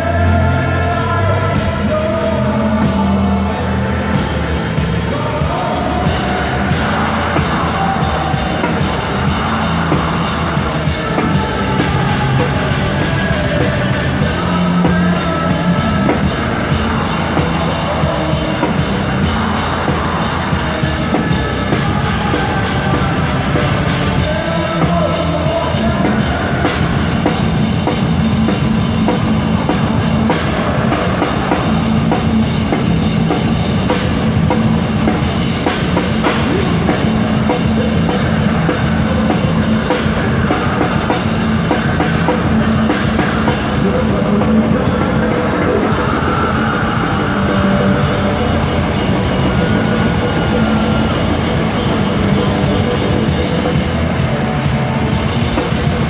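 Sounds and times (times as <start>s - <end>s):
drum kit: 0.0s - 56.0s
rock band playing live: 0.0s - 56.0s.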